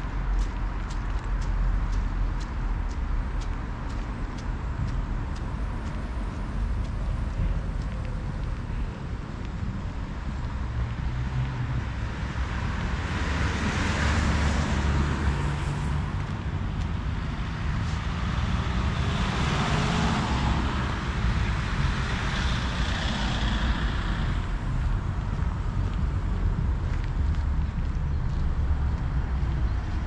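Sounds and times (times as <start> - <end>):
cars passing by: 0.0 - 30.0
steady low traffic rumble: 0.0 - 30.0.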